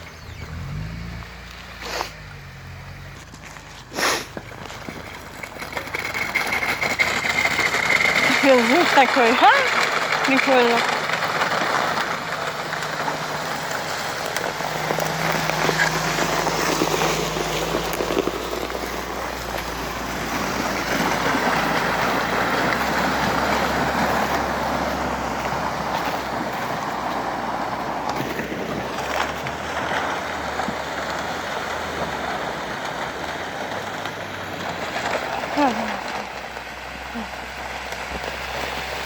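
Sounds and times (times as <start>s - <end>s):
tyre and ground noise: 0.0s - 39.0s
vehicle engine running low: 0.0s - 39.0s.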